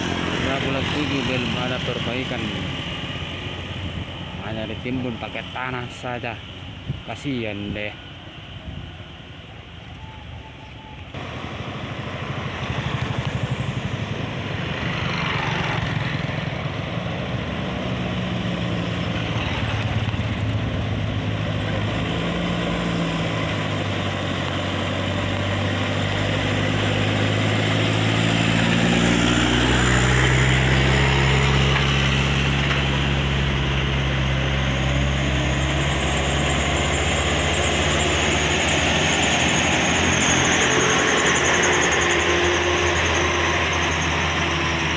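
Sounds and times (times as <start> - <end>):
truck engine pulling uphill: 0.0 - 44.9.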